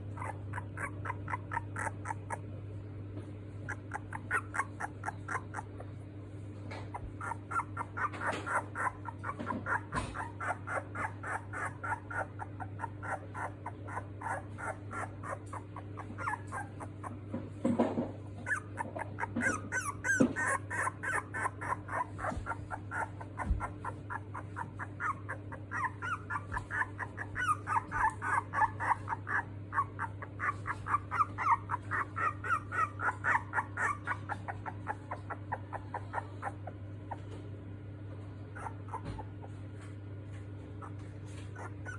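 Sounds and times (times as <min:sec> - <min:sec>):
puppy squeaking and whimpering: 0:00.0 - 0:02.6, 0:03.5 - 0:37.6, 0:38.2 - 0:41.9.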